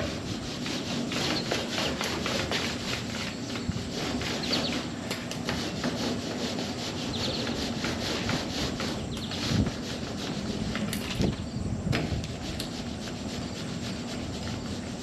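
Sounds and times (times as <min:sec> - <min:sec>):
paint roller rubbing on car panel: 0:00.0 - 0:15.0.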